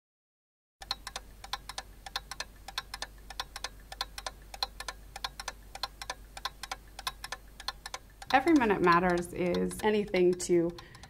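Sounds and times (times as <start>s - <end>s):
fast clock ticking: 0.8s - 11.0s.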